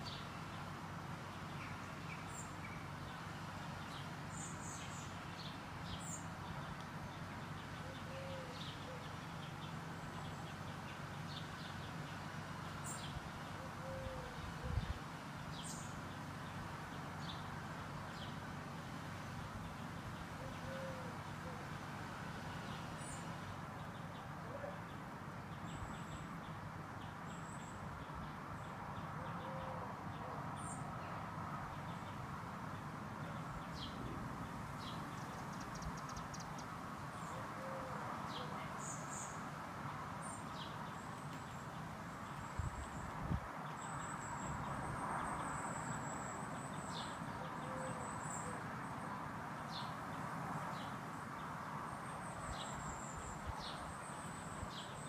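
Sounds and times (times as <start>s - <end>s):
small birds chirping: 0.0s - 18.6s, 22.4s - 37.6s, 38.2s - 55.0s.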